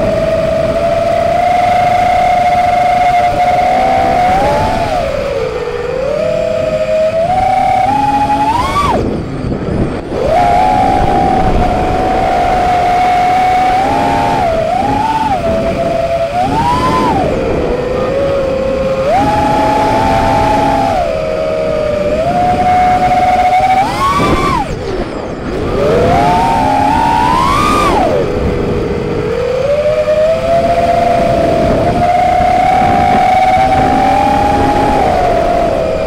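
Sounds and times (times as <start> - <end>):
drone motors whining: 0.0 - 36.0
steady rushing noise: 0.0 - 36.0.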